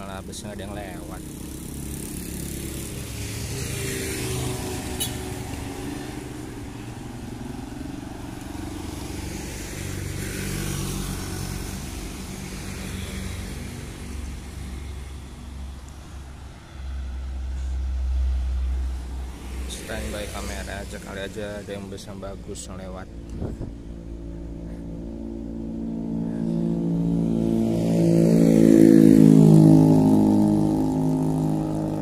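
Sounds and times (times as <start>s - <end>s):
motorcycles passing: 0.0s - 32.0s.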